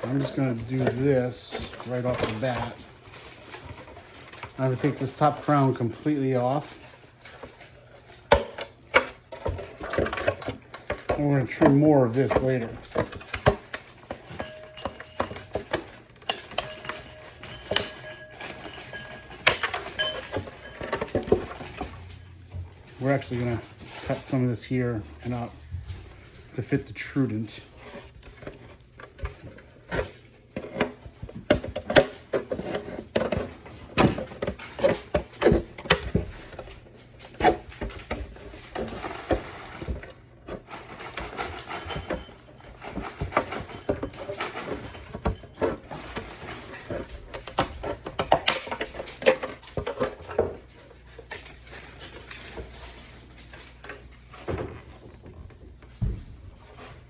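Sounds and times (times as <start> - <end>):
plastic scraping: 0.0 - 57.0.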